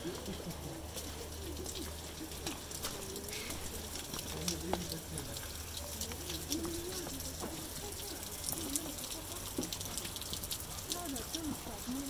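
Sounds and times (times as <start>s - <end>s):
people's voices murmuring faintly: 0.0s - 12.0s
water dripping and spattering: 0.0s - 12.0s.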